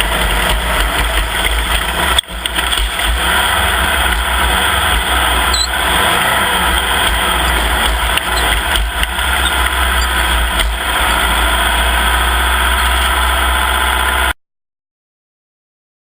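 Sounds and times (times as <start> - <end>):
dense rush of noise: 0.0 - 14.4
vehicle engine running: 0.0 - 14.4.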